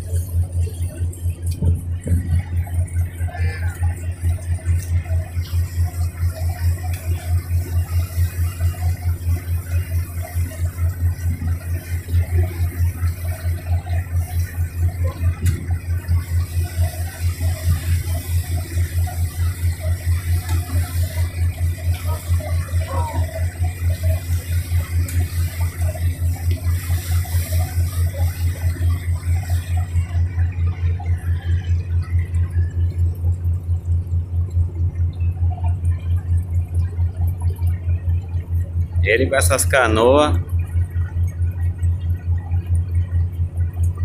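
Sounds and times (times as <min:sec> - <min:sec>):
boat engine throbbing: 0:00.0 - 0:44.0.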